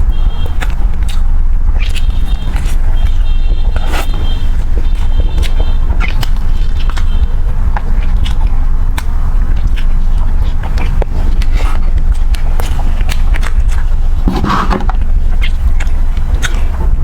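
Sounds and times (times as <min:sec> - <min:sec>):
chewing mouth clicks: 0:00.2 - 0:07.2, 0:07.8 - 0:17.0.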